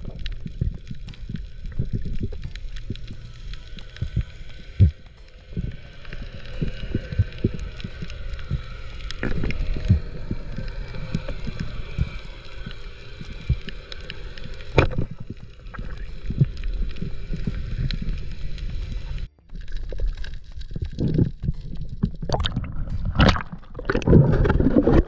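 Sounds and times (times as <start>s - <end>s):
clicks and crackles: 0.0s - 25.0s
underwater churning rumble: 0.0s - 25.0s.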